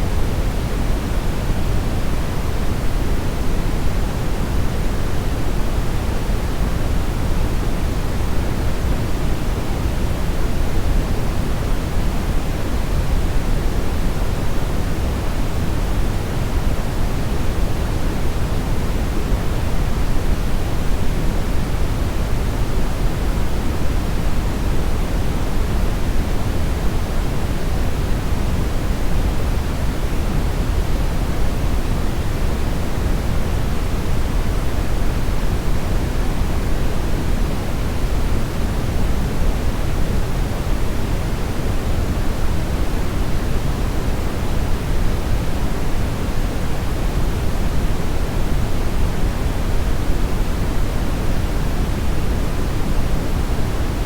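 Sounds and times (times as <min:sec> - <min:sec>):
steady brown noise hiss: 0:00.0 - 0:54.0.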